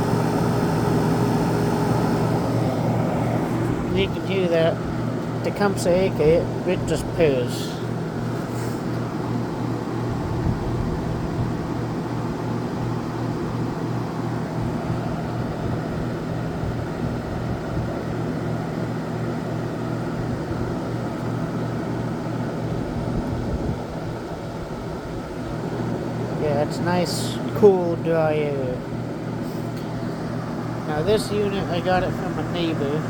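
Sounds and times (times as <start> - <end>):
air conditioner compressor hum: 0.0 - 33.0
fan rushing: 0.0 - 33.0.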